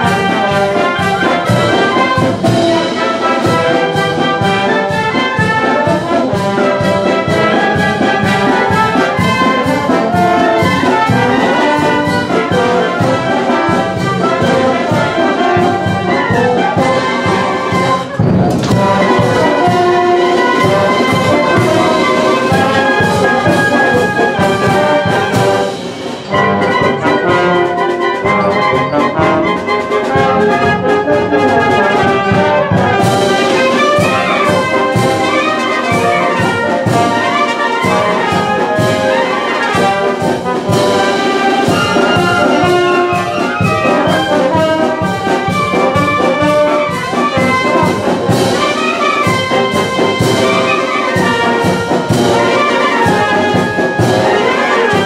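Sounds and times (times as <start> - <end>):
wind band playing: 0.0 - 55.0.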